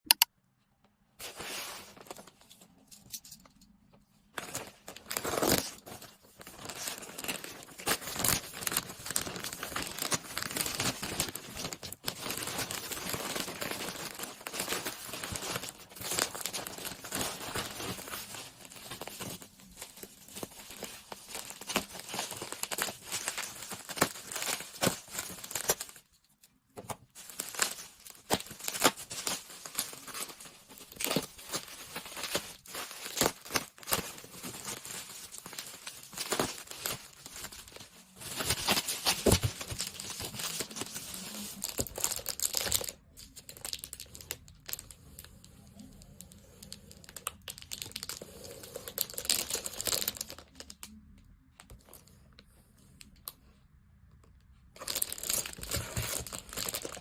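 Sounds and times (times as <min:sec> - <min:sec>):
packaging crinkling and tearing: 0:04.3 - 0:50.9, 0:54.8 - 0:57.0.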